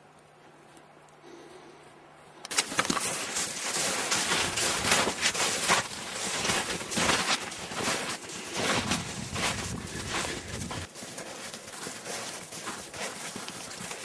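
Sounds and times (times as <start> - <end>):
boots crunching through snow: 2.5 - 14.0.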